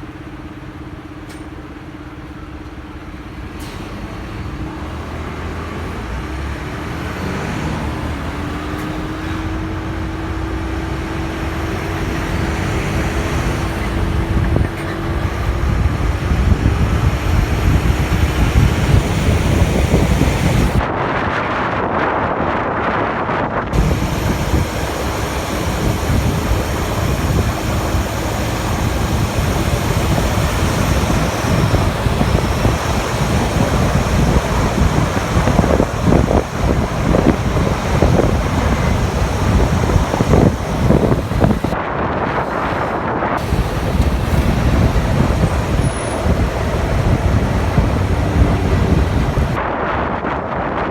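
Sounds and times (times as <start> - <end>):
road noise: 0.0 - 50.9
wind buffeting microphone: 3.4 - 50.9
motorcycle engine: 5.3 - 20.9, 23.7 - 49.6.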